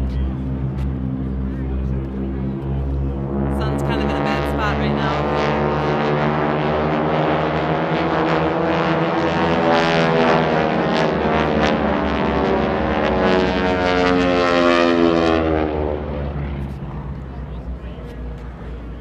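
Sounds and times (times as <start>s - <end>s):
aircraft engine drone: 0.0s - 19.0s
low hum: 0.0s - 19.0s.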